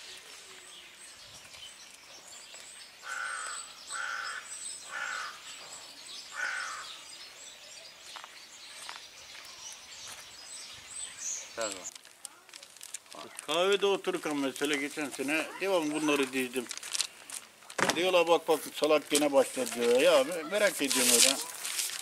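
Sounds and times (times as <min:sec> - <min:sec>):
faint chirping of small birds: 0:00.0 - 0:21.6.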